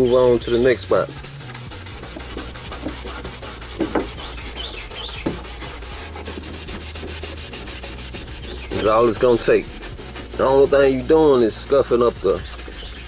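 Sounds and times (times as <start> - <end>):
abrasive pad rubbing paint: 0.0 - 13.0.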